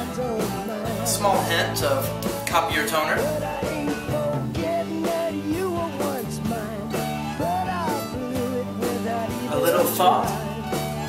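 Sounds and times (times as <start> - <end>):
band music with held bass: 0.0 - 11.0
sliding melody: 0.2 - 11.0.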